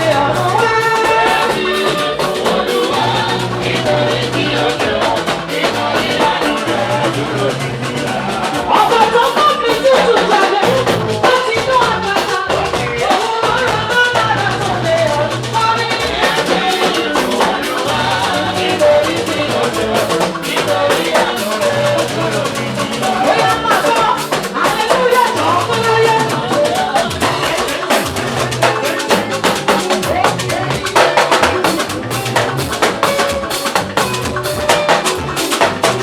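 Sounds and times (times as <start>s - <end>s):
drum kit: 0.0s - 36.0s
sustained bass notes: 0.0s - 36.0s
wavering melody line: 0.0s - 36.0s.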